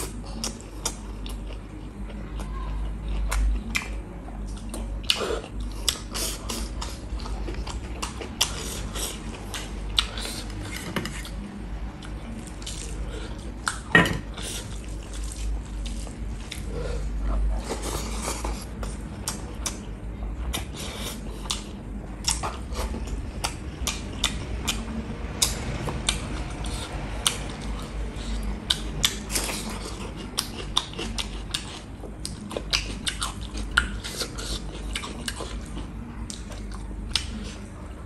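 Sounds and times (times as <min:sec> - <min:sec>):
wet chewing and lip-smacking: 0:00.0 - 0:11.4, 0:17.5 - 0:37.8.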